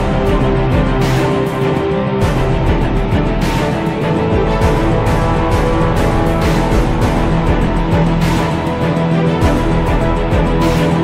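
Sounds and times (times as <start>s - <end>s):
theme-style background music: 0.0s - 11.0s.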